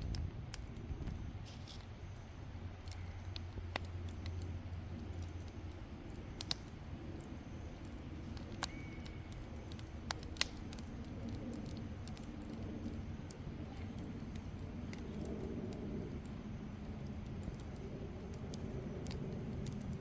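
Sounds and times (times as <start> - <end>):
steady low rumble: 0.0 - 20.0
wood fire crackling: 0.0 - 20.0
sharp pops of fire: 2.8 - 20.0.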